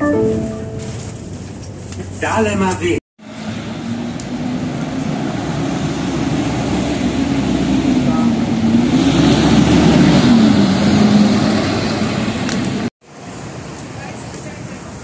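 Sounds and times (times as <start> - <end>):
bus diesel engine hum: 0.0 - 15.0
street traffic noise: 0.0 - 15.0.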